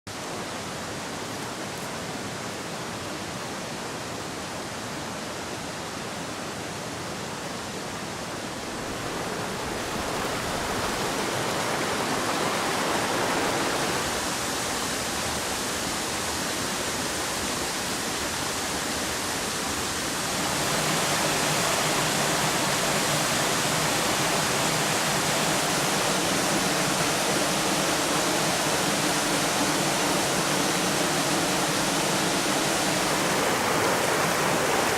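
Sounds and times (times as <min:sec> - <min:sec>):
stream water rushing: 0:00.1 - 0:34.9.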